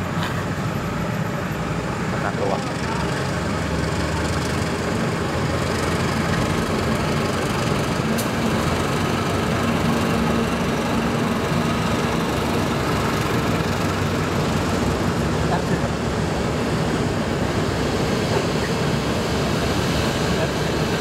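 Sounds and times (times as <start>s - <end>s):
diesel locomotive engine running: 0.0s - 21.0s
train rumbling across bridge: 0.0s - 21.0s.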